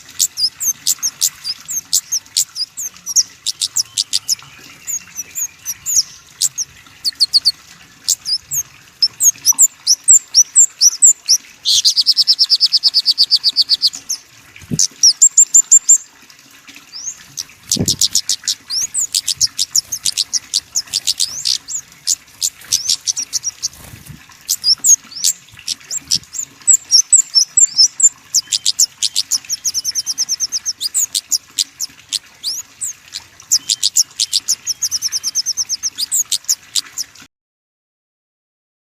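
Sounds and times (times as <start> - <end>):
songbirds chirping and trilling: 0.0 - 37.2.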